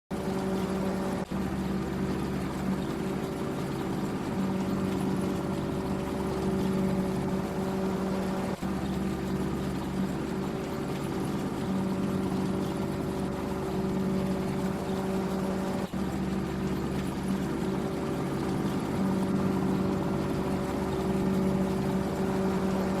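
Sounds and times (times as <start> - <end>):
farm machinery engine running: 0.1 - 23.0.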